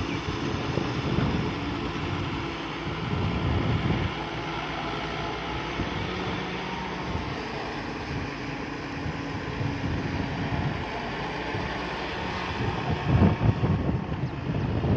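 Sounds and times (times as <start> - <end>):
diesel engine running: 0.0 - 14.9
wind buffeting microphone: 0.0 - 14.9.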